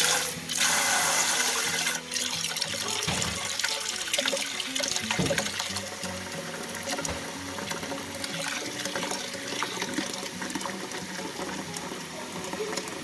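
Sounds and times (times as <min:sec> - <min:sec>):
tap water filling a pot: 0:00.0 - 0:13.0.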